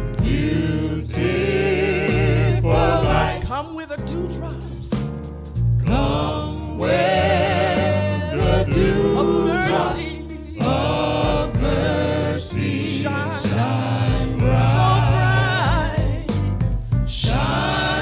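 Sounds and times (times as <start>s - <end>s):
band accompaniment: 0.0s - 18.0s
voices singing held notes: 0.2s - 3.6s, 5.8s - 16.5s, 17.1s - 18.0s.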